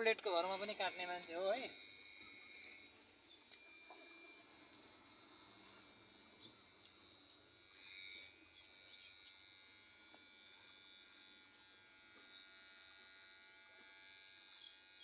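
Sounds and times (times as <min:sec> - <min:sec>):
electric hair clipper buzzing: 0:00.0 - 0:15.0.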